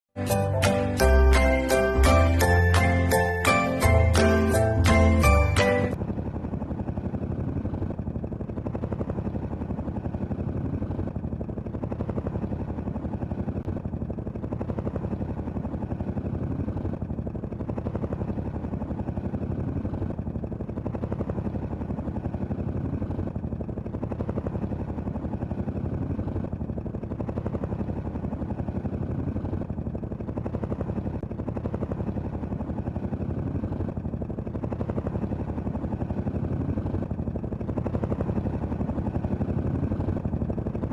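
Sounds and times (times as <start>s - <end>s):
helicopter rotor chopping: 0.2s - 40.9s.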